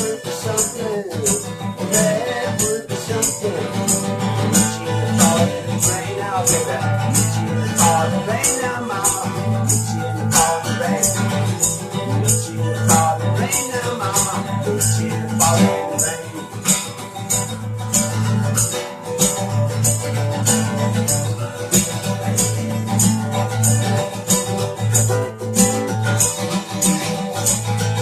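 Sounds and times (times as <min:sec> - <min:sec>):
guitar accompaniment: 0:00.0 - 0:28.0
shaker steady beat: 0:00.0 - 0:28.0.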